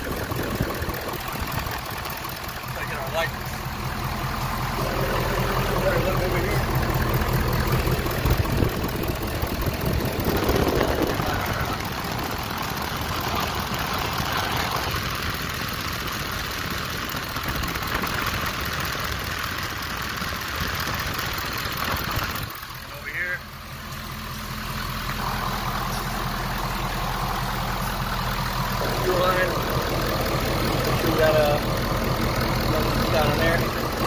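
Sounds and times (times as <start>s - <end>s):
diesel engine idling up close: 0.0s - 34.0s.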